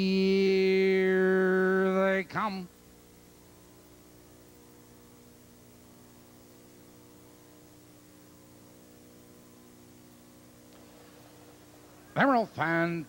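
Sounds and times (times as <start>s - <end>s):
constant hiss: 0.0s - 13.0s
faint electrical hum: 0.0s - 13.0s.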